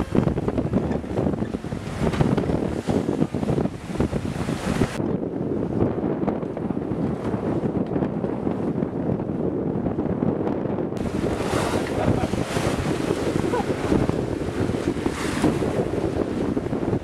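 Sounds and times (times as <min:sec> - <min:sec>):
choppy water along hull: 0:00.0 - 0:17.0
wind buffeting microphone: 0:00.0 - 0:17.0.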